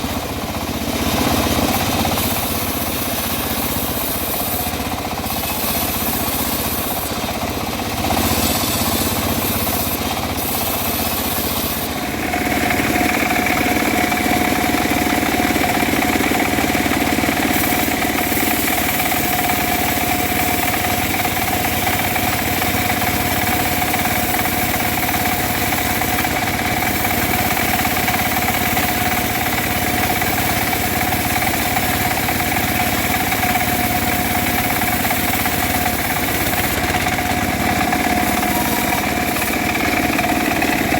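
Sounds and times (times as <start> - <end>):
bandsaw mill running: 0.0 - 40.9.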